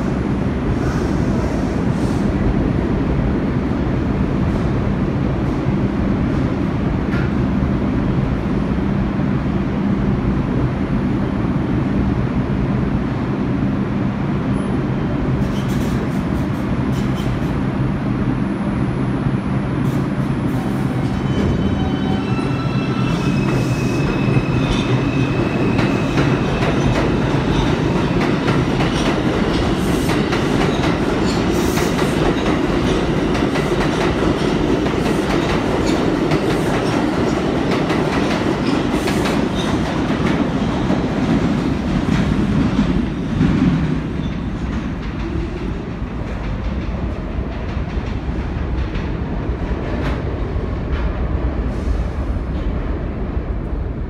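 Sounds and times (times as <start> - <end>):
subway train rumble: 0.0 - 54.0.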